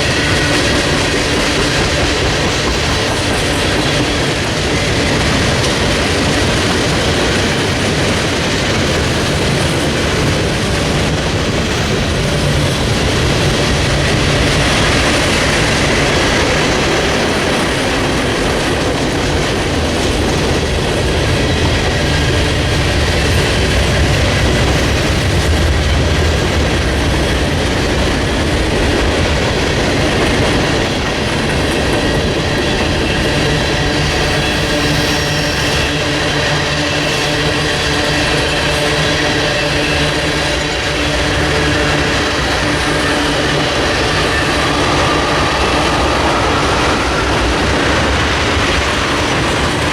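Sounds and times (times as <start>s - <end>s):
railcars rumbling: 0.0s - 49.9s.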